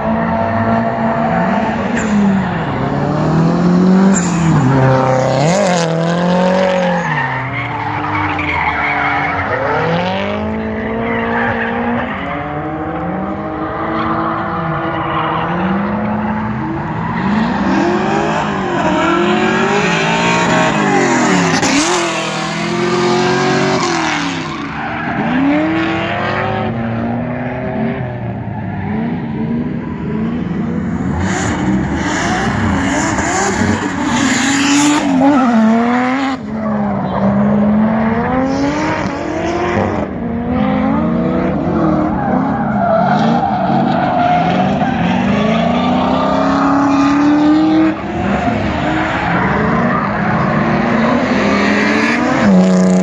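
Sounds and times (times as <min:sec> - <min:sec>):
tyres squealing and skidding: 0:00.0 - 0:26.6, 0:31.1 - 0:40.0, 0:41.4 - 0:53.0
car engines revving hard: 0:00.0 - 0:53.0.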